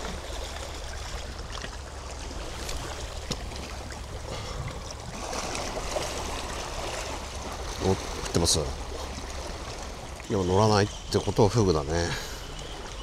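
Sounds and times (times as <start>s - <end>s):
sea water washing among rocks: 0.0s - 10.4s.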